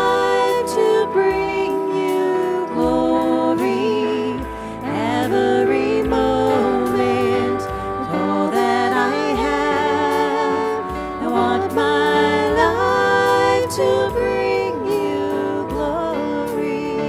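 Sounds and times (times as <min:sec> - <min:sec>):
sustained low instrumental chords: 0:00.0 - 0:17.0
voices singing worship song: 0:00.0 - 0:17.0.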